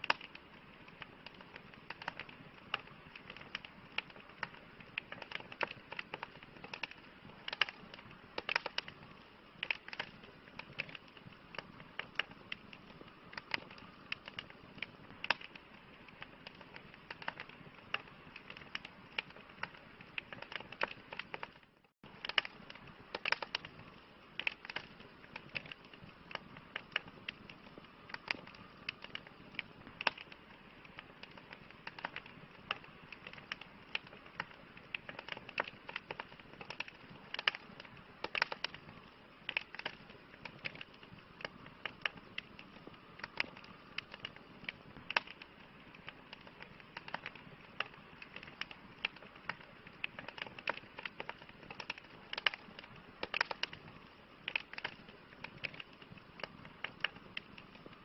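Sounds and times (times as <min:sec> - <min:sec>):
campfire crackling: 0:00.0 - 0:58.0
soft steady hiss: 0:00.0 - 0:58.0.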